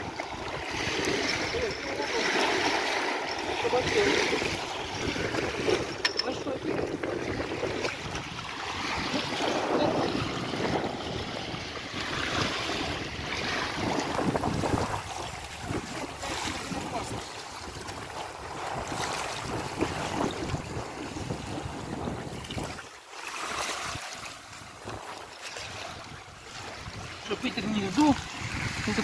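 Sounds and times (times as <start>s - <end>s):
wind buffeting microphone: 0.0s - 22.9s, 23.8s - 29.0s
waves lapping over stones: 0.0s - 29.0s.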